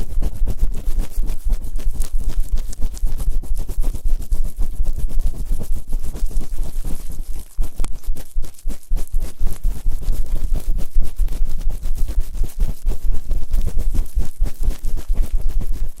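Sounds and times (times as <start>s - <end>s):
scraping and rubbing on microphone: 0.0s - 16.0s.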